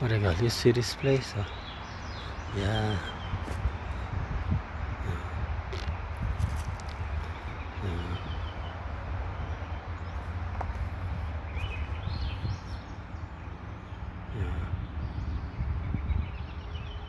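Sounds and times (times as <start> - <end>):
birds chirping: 0.0 - 17.0
steady low rumble: 0.0 - 17.0.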